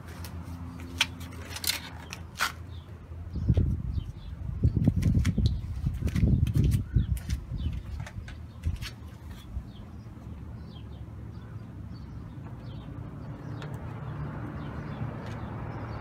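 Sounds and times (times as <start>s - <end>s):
low traffic hum: 0.0s - 16.0s.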